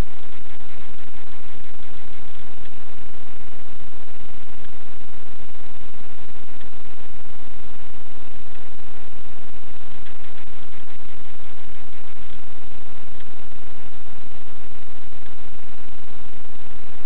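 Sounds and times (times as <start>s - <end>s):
faint buzz: 0.0s - 17.0s
static hiss: 0.0s - 17.0s.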